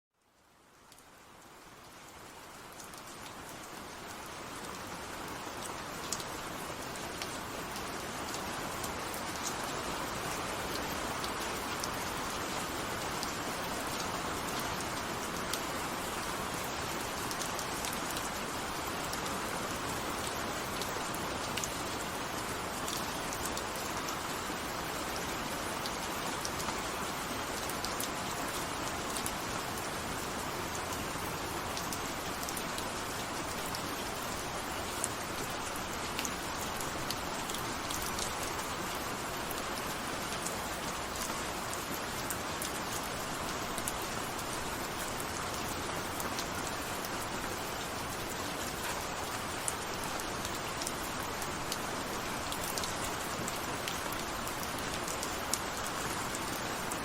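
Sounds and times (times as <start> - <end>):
rain falling: 0.2 - 57.0
raindrops ticking on surface: 0.2 - 57.0.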